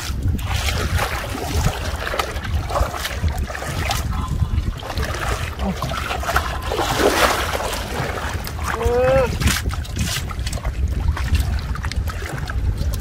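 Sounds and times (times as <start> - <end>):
water sloshing around wading legs: 0.0 - 13.0
wind rumbling on microphone: 0.0 - 13.0.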